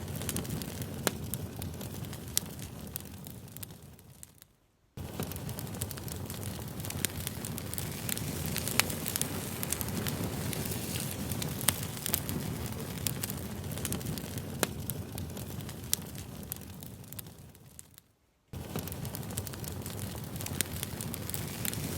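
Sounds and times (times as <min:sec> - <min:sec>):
campfire crackling: 0:00.0 - 0:21.9.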